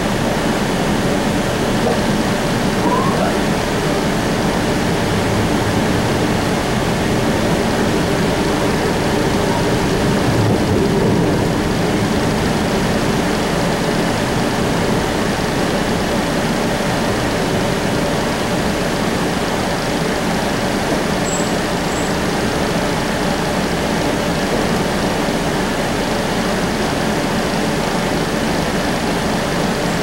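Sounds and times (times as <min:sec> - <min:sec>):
streetcar wheels rolling on rails: 0:00.0 - 0:30.0.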